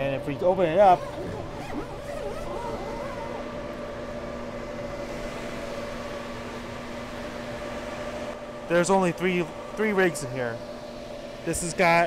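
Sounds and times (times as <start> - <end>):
computer fans running: 0.0 - 12.0.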